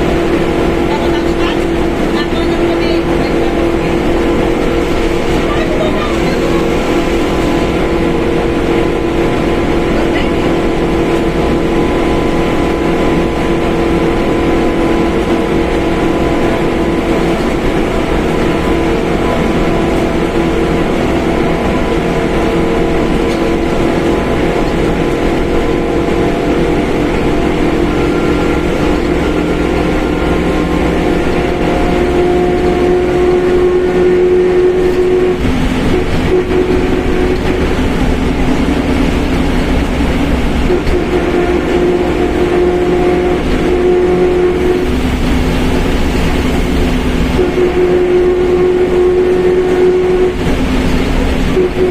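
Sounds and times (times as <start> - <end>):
bus engine running: 0.0 - 51.9.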